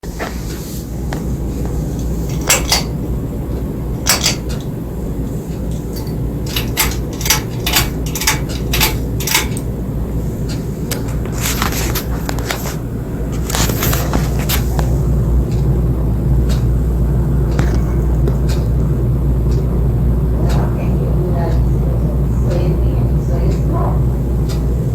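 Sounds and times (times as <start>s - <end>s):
ceiling fan rumble: 0.0s - 24.9s
fan clicks and knocks: 0.0s - 24.9s.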